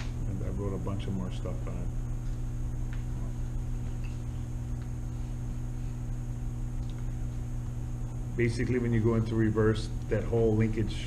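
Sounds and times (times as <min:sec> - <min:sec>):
faint high whine: 0:00.0 - 0:11.0
low ventilation hum: 0:00.0 - 0:11.0.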